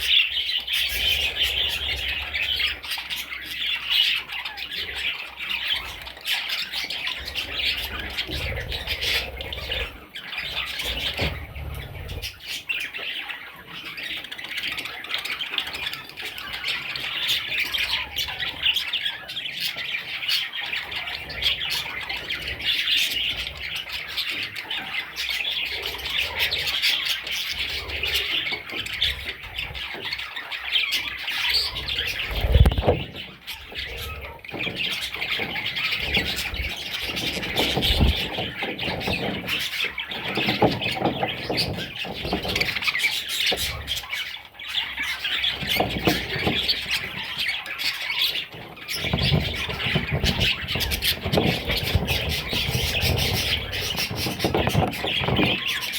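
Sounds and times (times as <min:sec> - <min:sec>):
budgerigar chicks squawking: 0:00.0 - 0:55.9.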